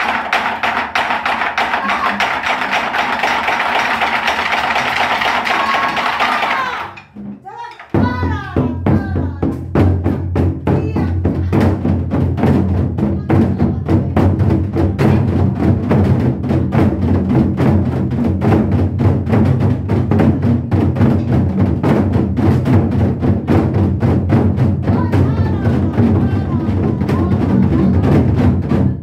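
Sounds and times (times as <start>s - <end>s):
barrel drums struck with sticks: 0.0s - 29.0s.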